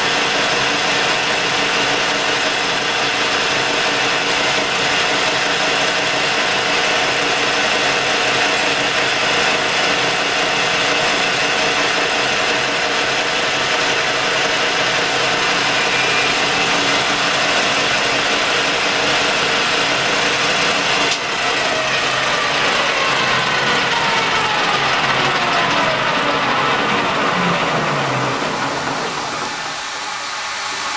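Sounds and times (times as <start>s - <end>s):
lathe gears whining: 0.0s - 30.9s.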